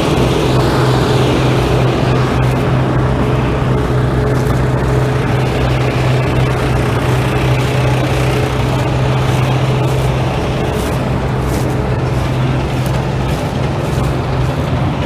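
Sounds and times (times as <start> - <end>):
engine-driven machine humming: 0.0 - 15.0.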